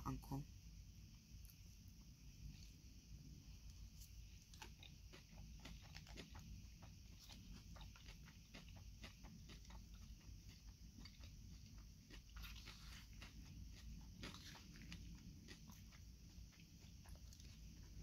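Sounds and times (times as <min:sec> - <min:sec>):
chewing crunchy salad: 0:02.4 - 0:02.8, 0:03.6 - 0:18.0.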